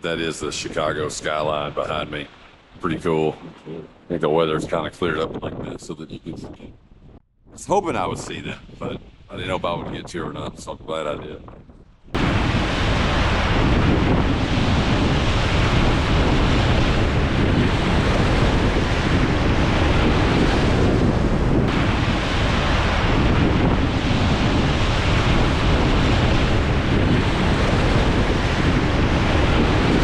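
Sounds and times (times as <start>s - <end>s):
strong wind on microphone: 0.0s - 30.0s.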